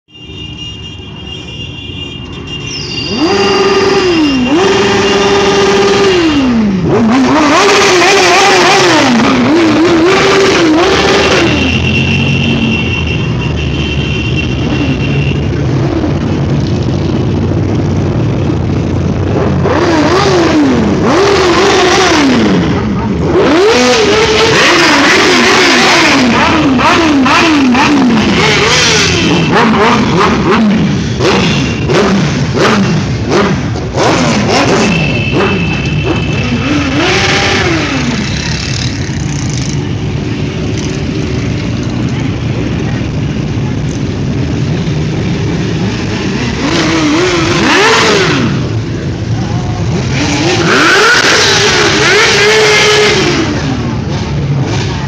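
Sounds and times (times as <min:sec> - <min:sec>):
motorcycles passing and revving: 0:02.1 - 0:55.0.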